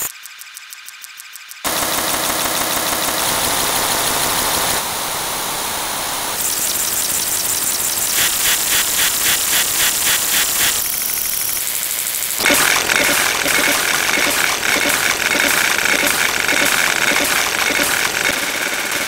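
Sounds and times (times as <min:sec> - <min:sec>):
rapid pulsing: 0:01.6 - 0:05.0, 0:06.4 - 0:19.0.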